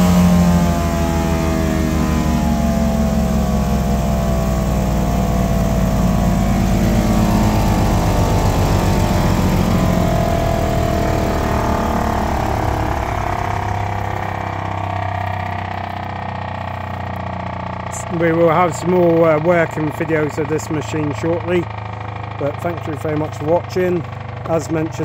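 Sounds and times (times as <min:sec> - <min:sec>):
woodchipper engine running: 0:00.0 - 0:25.0.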